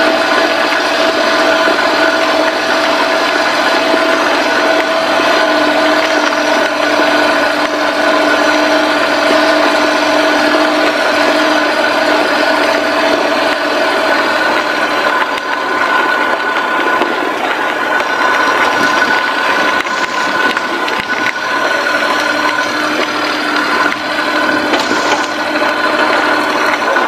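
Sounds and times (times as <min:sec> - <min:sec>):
whining tones: 0:00.0 - 0:27.0.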